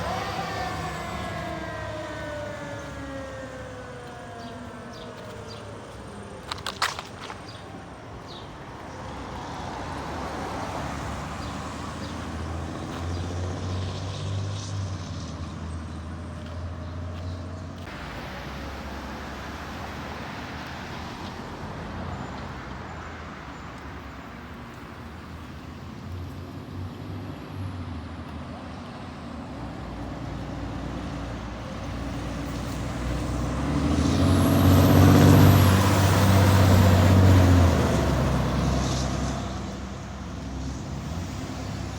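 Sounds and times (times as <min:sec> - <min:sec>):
heavy truck engine: 0:00.0 - 0:07.2, 0:07.9 - 0:23.4, 0:25.6 - 0:41.9.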